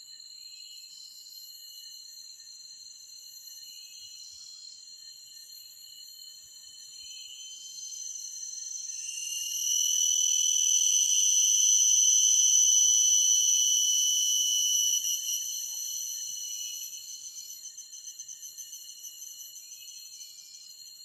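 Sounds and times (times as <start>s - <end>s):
insects buzzing chorus: 0.1s - 21.0s.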